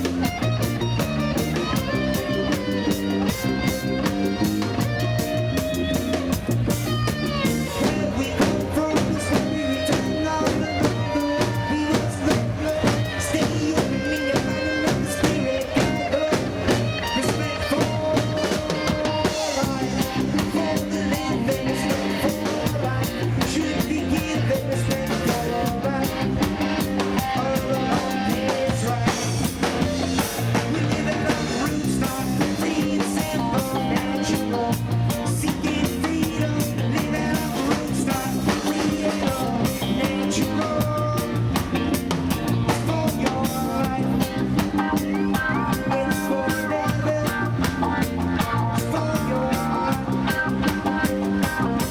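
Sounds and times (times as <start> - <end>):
live reggae band playing: 0.0 - 51.9.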